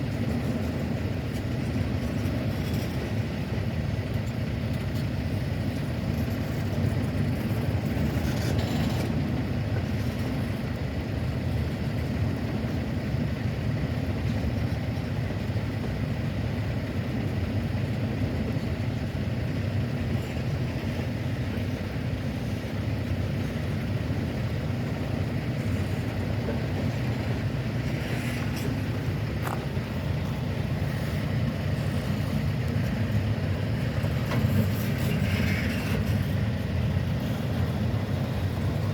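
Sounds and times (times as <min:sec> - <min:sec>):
diesel locomotives idling: 0:00.0 - 0:38.9.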